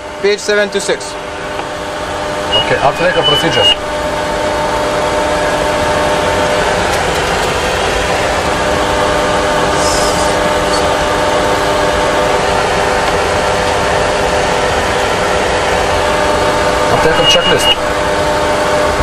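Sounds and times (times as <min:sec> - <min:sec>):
flight deck rush with hum tones: 0:00.1 - 0:19.0.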